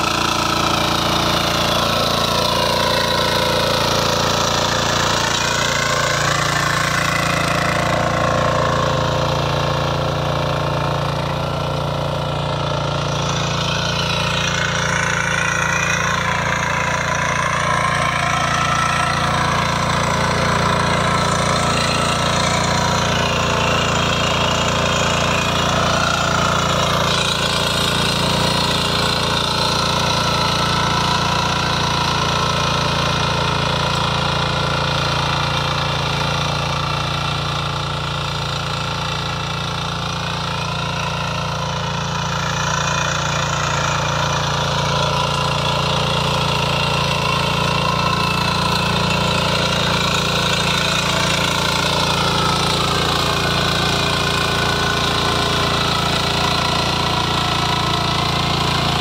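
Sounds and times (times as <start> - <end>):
tines churning soil: 0.0 - 59.0
weeder engine running: 0.0 - 59.0.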